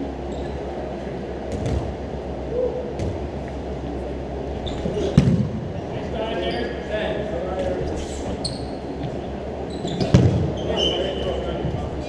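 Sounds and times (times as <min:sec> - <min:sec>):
low hum of hall: 0:00.0 - 0:12.0.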